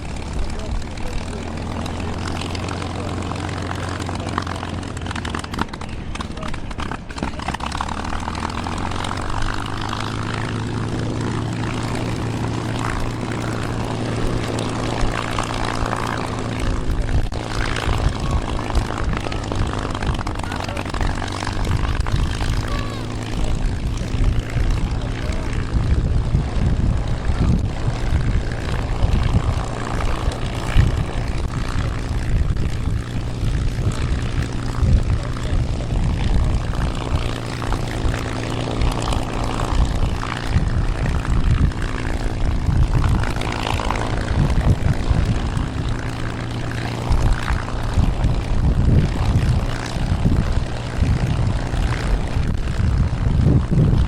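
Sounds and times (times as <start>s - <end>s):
propeller aircraft engine drone: 0.0s - 54.0s
wind buffeting microphone: 0.0s - 54.0s.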